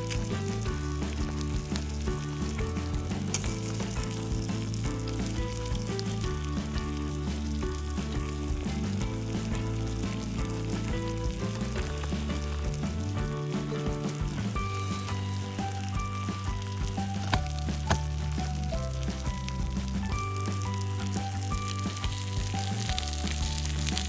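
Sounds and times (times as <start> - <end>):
background music low chords: 0.0 - 24.0
sizzling crackle with pops: 0.0 - 24.0.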